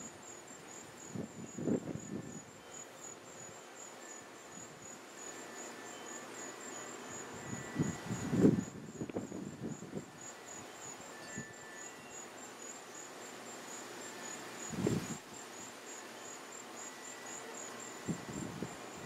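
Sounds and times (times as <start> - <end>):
high-pitched insects chirping: 0.0 - 19.0.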